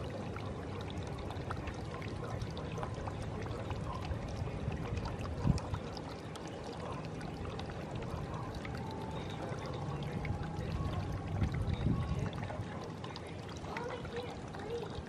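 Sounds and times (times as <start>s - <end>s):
low outdoor rumble: 0.0s - 14.8s.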